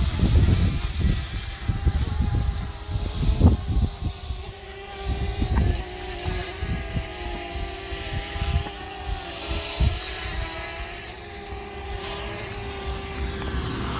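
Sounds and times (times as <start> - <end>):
drone propellers whining: 0.0 - 13.9
wind buffeting microphone: 0.0 - 13.9.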